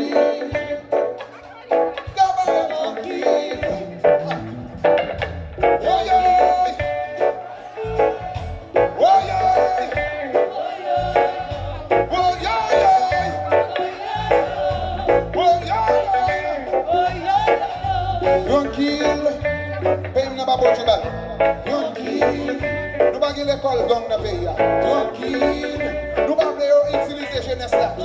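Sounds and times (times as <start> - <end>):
live band music: 0.0 - 28.0.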